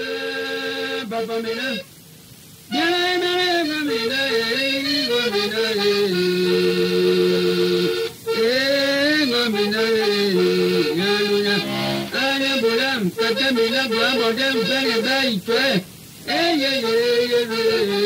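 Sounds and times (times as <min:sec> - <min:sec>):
accordion chords: 0:00.0 - 0:01.9, 0:02.7 - 0:18.0
man singing: 0:00.0 - 0:01.9, 0:02.7 - 0:18.0.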